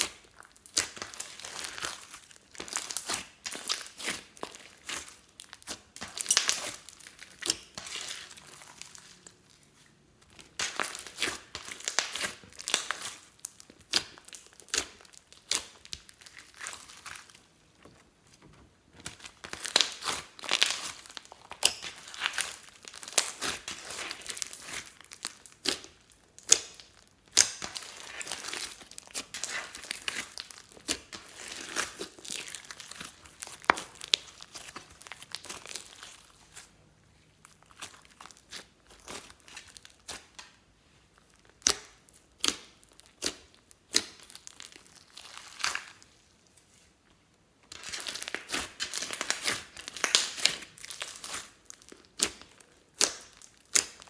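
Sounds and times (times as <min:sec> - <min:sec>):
slime crackling and popping: 0:00.0 - 0:17.5, 0:19.0 - 0:36.7, 0:37.4 - 0:40.6, 0:41.2 - 0:46.3, 0:47.7 - 0:54.0.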